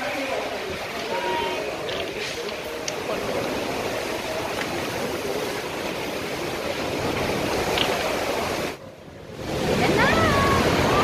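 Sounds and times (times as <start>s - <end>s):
surf echoing in a cave: 0.0s - 11.0s.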